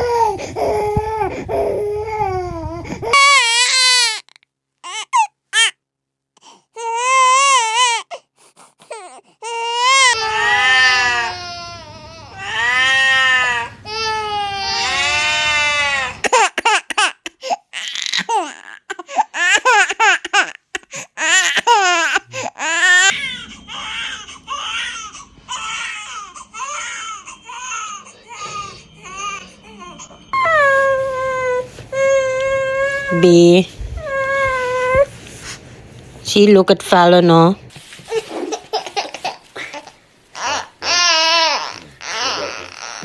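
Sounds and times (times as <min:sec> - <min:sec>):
baby crying: 0:00.0 - 0:05.8, 0:06.8 - 0:08.2, 0:08.9 - 0:35.2, 0:39.6 - 0:43.0.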